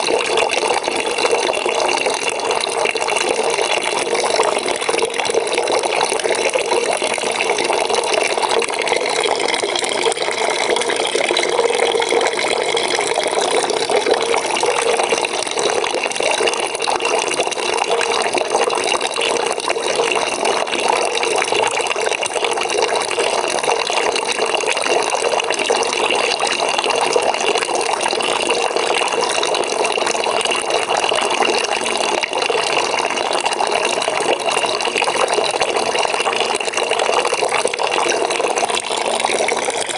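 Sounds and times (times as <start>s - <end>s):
tap water filling bucket: 0.0s - 39.9s.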